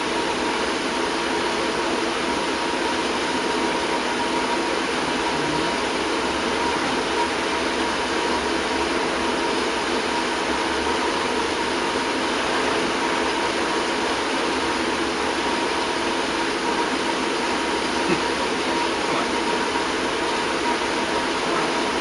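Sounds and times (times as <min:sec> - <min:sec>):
machine hum and hiss: 0:00.0 - 0:22.0.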